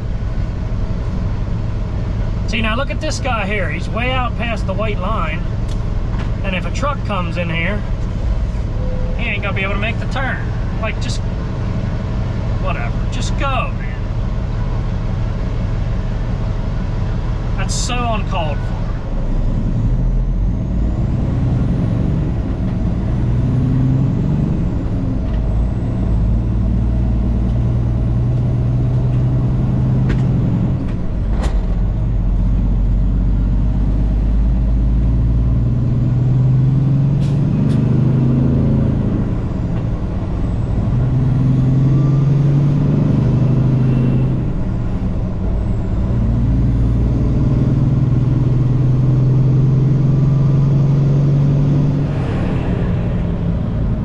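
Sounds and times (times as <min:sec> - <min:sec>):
truck diesel engine driving: 0:00.0 - 0:54.0.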